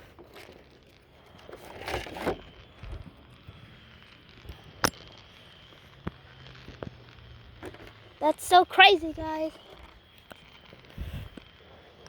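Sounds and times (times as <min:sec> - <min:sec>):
distant fireworks crackling: 0:00.0 - 0:12.0.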